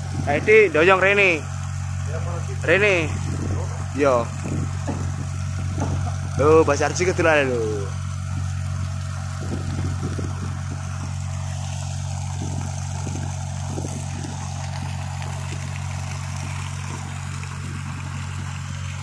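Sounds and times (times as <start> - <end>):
boat engine running: 0.0 - 19.0
water splashing and trickling: 0.0 - 19.0.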